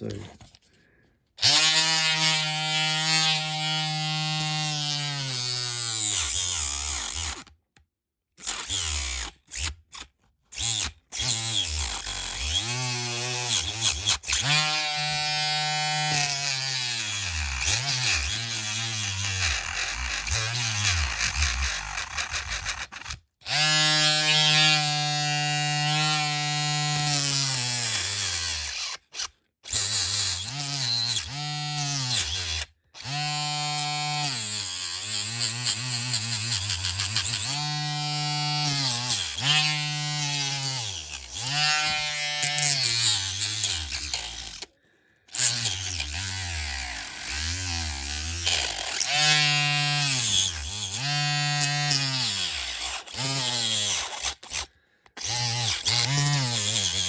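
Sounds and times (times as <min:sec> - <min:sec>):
handheld power tool motor whine: 0:01.4 - 0:07.5, 0:08.4 - 0:44.7, 0:45.3 - 0:57.0.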